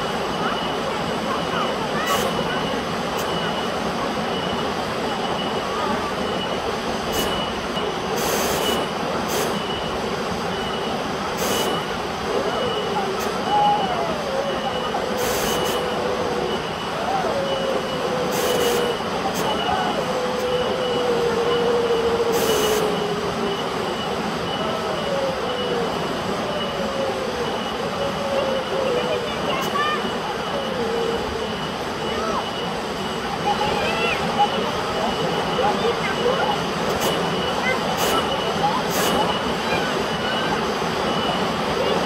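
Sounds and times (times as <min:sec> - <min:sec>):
hissy water splashes: 0:00.0 - 0:42.0.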